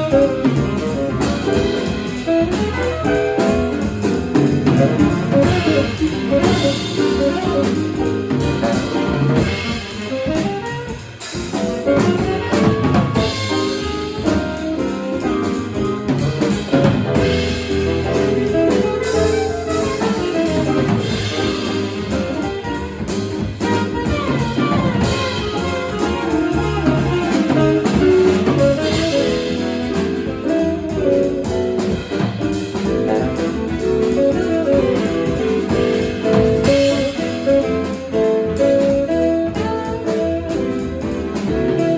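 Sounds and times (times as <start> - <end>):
bass: 0.0 - 41.9
drum kit: 0.0 - 41.9
piano: 0.0 - 41.9
saxophone: 0.0 - 41.9.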